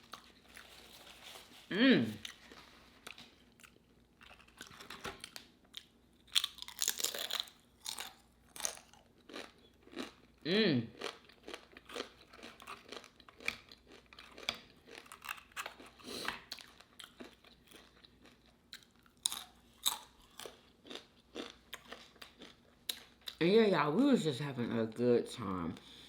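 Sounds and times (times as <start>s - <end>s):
chewing and crunching food: 0.0s - 23.4s.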